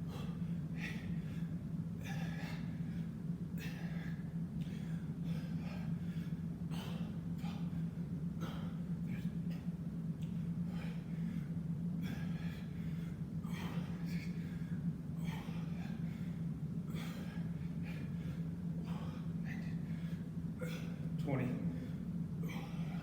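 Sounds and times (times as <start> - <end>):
man gasping for breath: 0.0 - 23.0.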